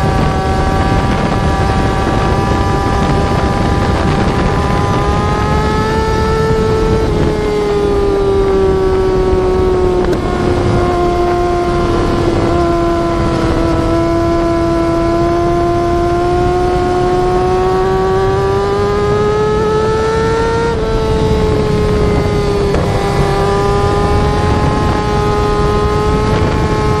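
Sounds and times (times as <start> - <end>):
motorcycle engine at high revs: 0.0 - 27.0.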